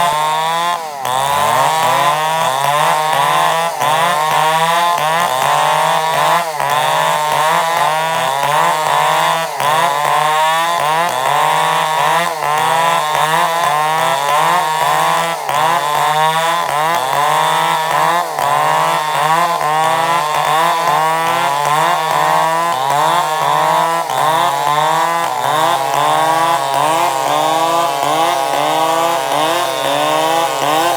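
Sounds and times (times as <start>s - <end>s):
chainsaw cutting timber: 0.0s - 30.9s.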